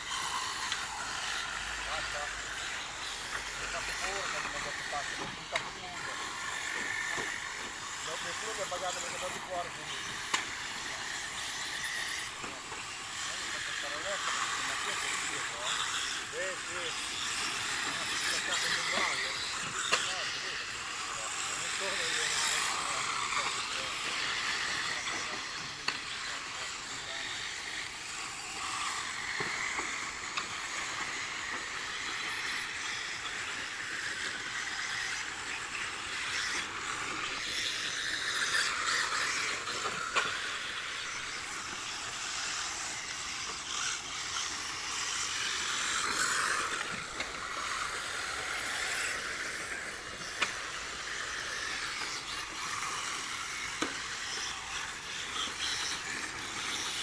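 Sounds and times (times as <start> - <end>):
rc cars motor and tyre hiss: 0.0 - 57.0.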